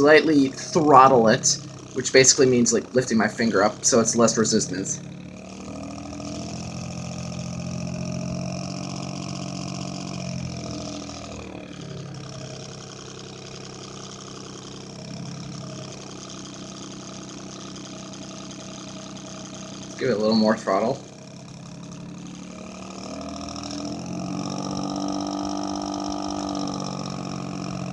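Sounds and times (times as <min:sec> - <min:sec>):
pulsing desk fan drone: 0:00.0 - 0:27.9.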